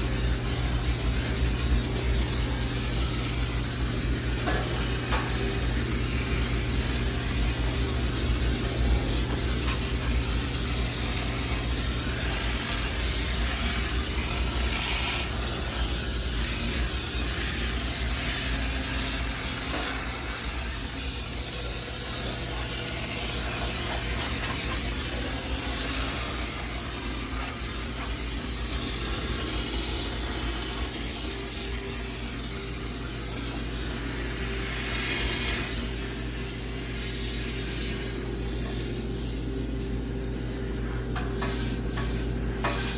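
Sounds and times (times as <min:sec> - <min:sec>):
steady low hum: 0:00.0 - 0:42.9
steam cleaner hissing: 0:00.0 - 0:42.9.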